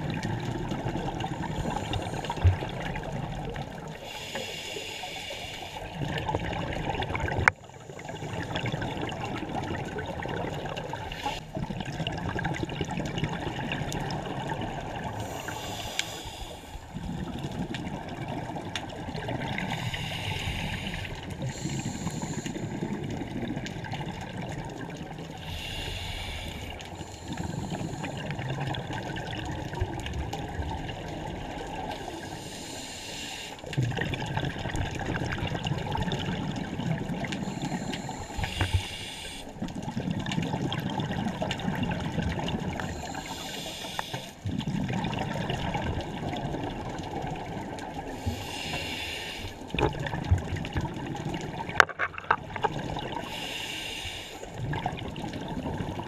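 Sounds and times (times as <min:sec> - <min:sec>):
exhaled bubbles hissing underwater: 0:00.0 - 0:56.0
low rumble of water: 0:00.0 - 0:56.0.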